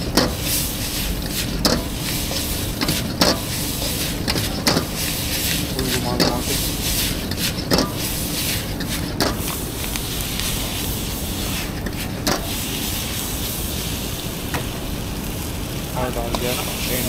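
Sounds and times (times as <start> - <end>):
metal spatula scraping wok: 0.0 - 13.7
stir-frying sizzle: 0.0 - 17.0.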